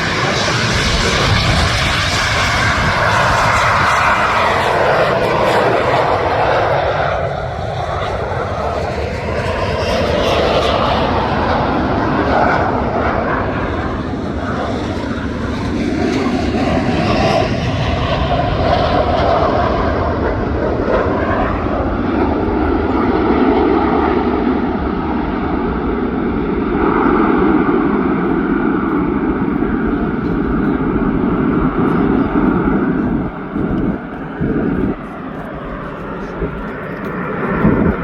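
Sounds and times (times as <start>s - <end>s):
jets taking off: 0.0s - 38.0s.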